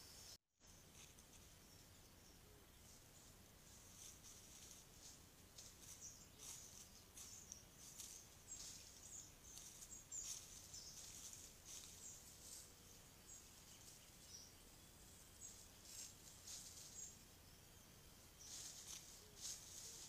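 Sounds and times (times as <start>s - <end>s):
faint high-pitched chirps: 0.0s - 20.0s
rustling of dry leaf litter: 0.7s - 1.8s, 2.7s - 14.4s, 15.0s - 17.5s, 18.2s - 20.0s.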